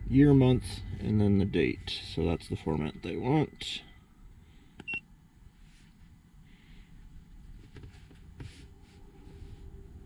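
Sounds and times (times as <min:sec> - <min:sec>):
faint low rumble: 0:00.0 - 0:10.0.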